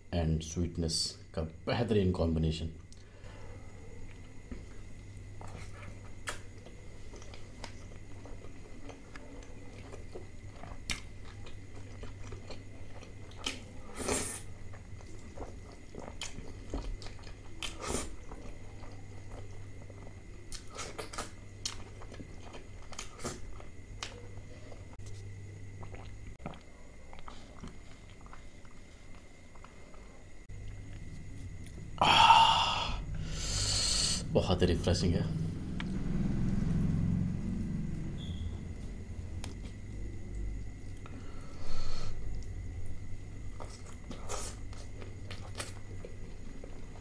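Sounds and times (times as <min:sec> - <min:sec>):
faint low hum: 0:00.0 - 0:47.0.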